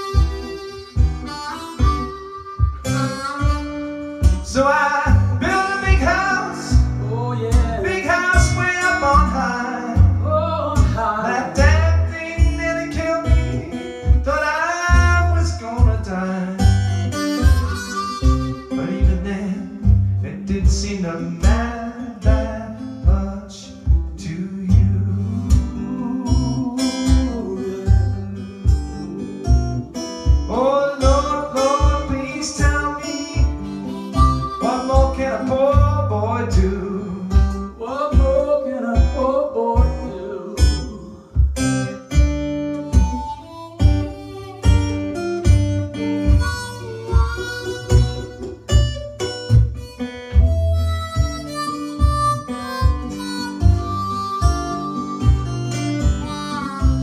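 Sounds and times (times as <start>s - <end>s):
blues harmonica playing: 0.0s - 20.2s, 25.1s - 57.0s
acoustic guitar rhythm: 0.0s - 57.0s.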